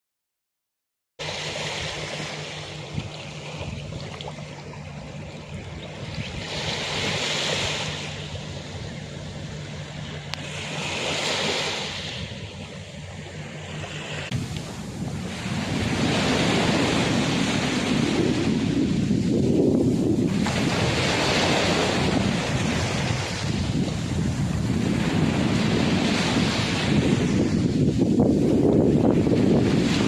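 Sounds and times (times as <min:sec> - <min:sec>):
surf washing on beach: 0:01.2 - 0:30.0.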